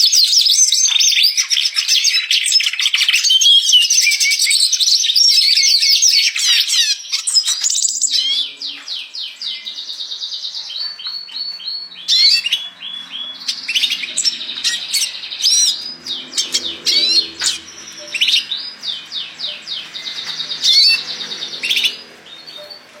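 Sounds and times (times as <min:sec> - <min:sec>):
bird twittering song: 0:00.0 - 0:23.0.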